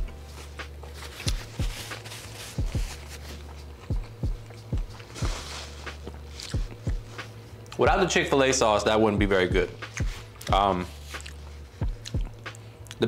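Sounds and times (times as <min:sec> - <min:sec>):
hip-hop beat with kick drum: 0:00.0 - 0:08.2, 0:09.1 - 0:11.1, 0:11.7 - 0:12.6.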